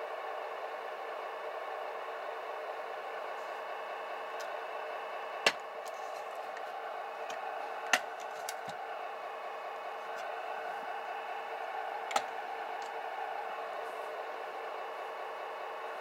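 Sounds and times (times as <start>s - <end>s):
mechanical hum of rc models: 0.0s - 16.0s.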